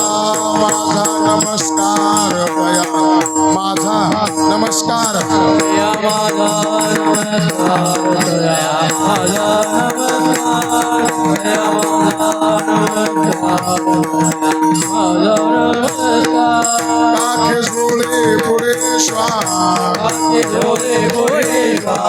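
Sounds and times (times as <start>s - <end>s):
hand-drum strokes: 0.0s - 22.0s
voices singing devotional melody: 0.0s - 22.0s.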